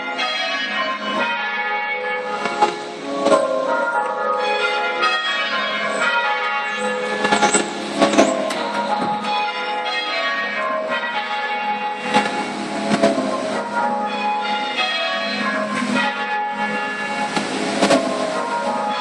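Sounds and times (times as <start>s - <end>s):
half-muffled church bells ringing: 0.0s - 19.0s.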